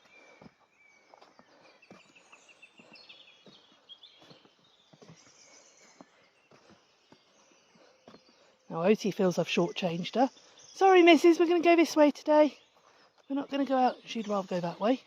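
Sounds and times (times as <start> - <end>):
footsteps on woodland path: 0.0 - 15.0
songbirds chirping: 0.0 - 15.0.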